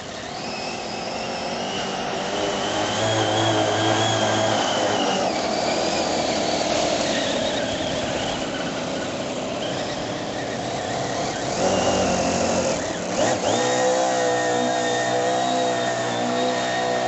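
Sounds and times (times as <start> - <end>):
model boat engine running: 0.0 - 17.0.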